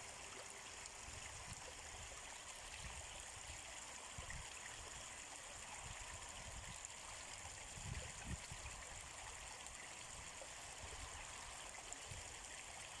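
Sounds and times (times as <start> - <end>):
river water running over stones: 0.0 - 13.0.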